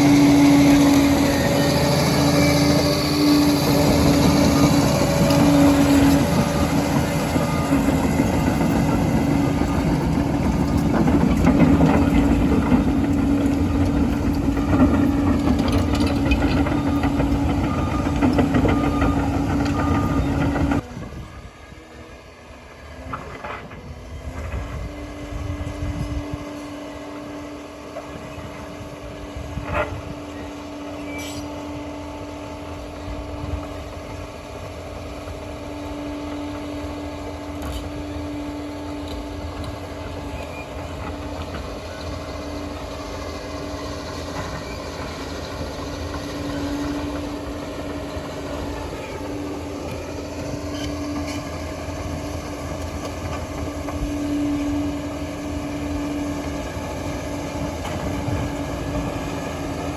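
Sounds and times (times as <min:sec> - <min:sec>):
dozer diesel engine whining: 0:00.0 - 0:59.9.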